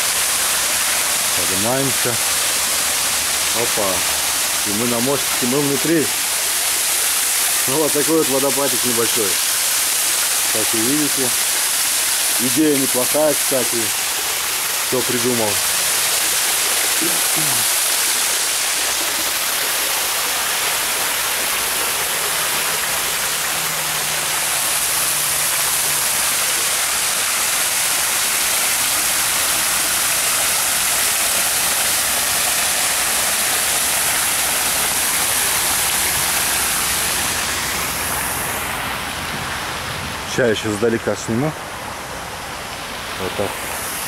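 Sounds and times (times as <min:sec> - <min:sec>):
water pouring and splashing: 0:00.0 - 0:44.0.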